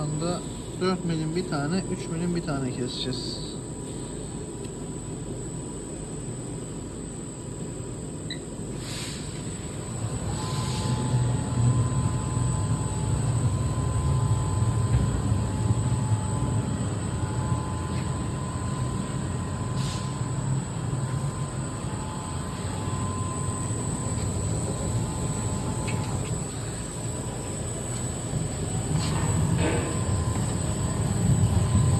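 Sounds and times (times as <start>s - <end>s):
faint steady whine: 0.0s - 31.9s.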